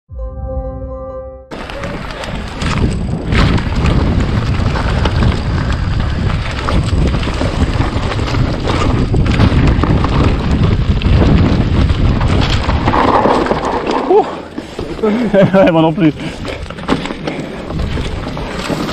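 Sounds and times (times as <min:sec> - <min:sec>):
bike rattling and knocking: 0:01.5 - 0:18.9
wind rumbling on microphone: 0:01.5 - 0:18.9.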